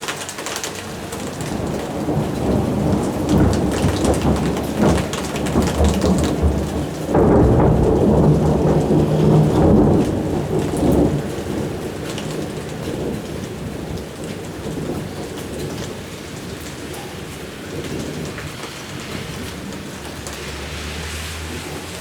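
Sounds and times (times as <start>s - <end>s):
steady rain: 0.0s - 22.0s
rolling thunder: 0.8s - 22.0s.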